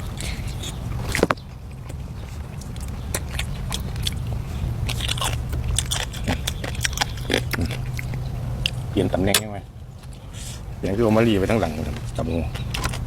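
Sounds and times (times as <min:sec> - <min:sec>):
person chewing crunchy food: 0:00.0 - 0:10.8, 0:11.5 - 0:13.0.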